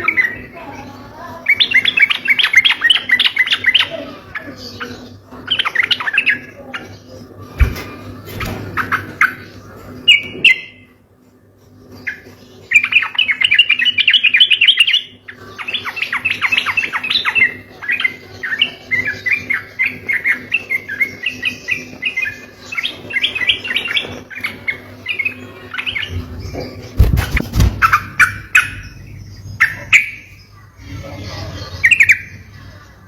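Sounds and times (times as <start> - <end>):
bulbul singing chirping runs: 0.0 - 33.0.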